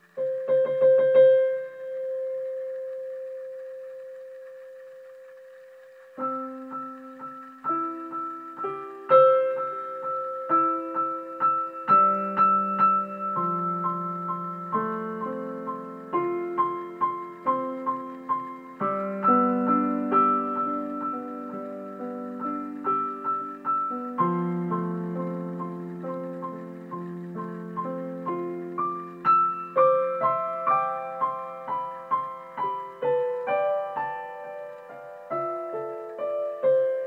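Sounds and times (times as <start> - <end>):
solo piano music: 0.0 - 37.0.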